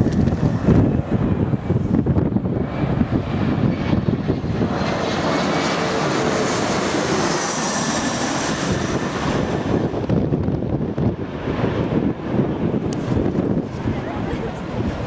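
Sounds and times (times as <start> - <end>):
jet airliner passing overhead: 0.0 - 15.0
wind buffeting microphone: 0.0 - 15.0.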